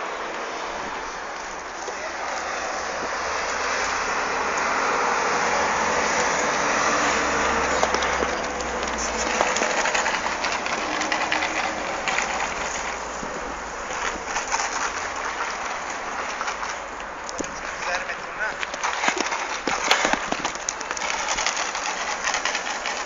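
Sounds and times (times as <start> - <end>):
horses galloping on sand: 0.0 - 23.0
steady rushing noise: 0.0 - 23.0.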